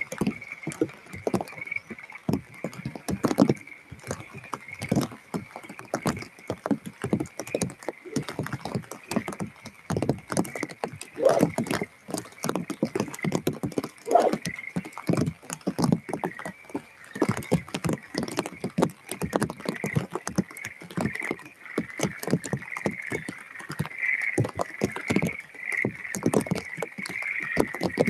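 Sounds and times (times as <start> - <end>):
rain pattering on microphone: 0.0 - 28.0.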